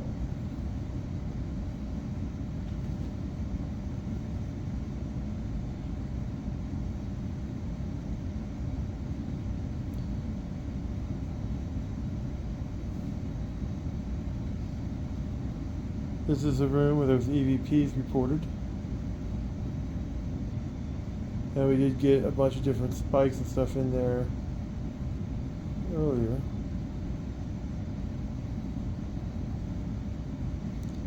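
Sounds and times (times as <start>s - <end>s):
boiler room machinery rumbling: 0.0s - 31.0s.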